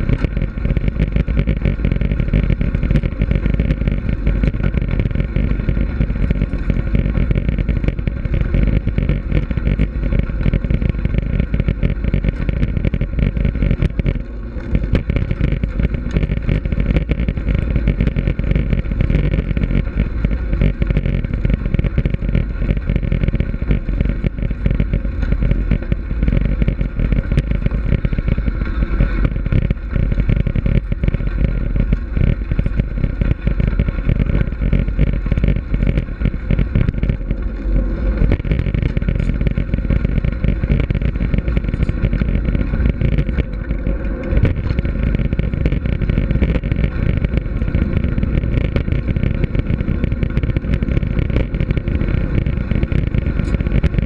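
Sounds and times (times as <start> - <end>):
bike rattling: 0.0 - 54.0
bike tyres rumbling on gravel: 0.0 - 54.0.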